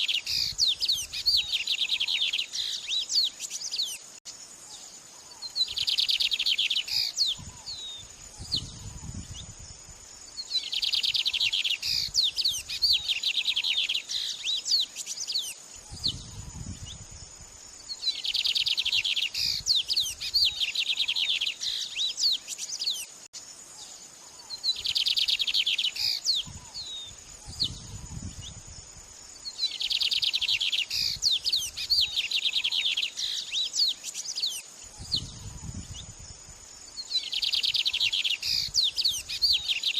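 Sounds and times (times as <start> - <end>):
buzzy bird song phrases: 0.0 - 39.9
high insect-like whine: 0.0 - 39.9.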